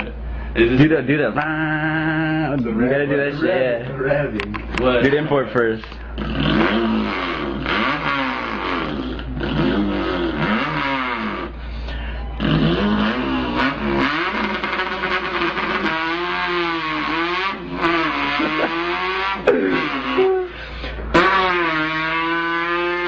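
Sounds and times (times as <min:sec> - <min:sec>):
man imitating car engine revving: 0:00.0 - 0:03.7, 0:06.0 - 0:23.0.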